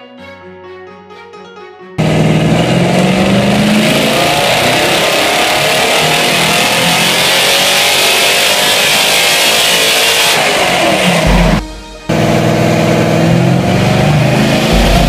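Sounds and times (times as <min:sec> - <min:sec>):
car engine revving under load: 0:02.0 - 0:15.0.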